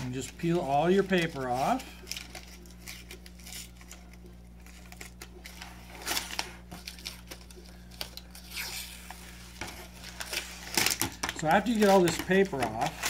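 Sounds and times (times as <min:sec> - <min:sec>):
paper backing crinkling and tearing: 0:00.0 - 0:13.0.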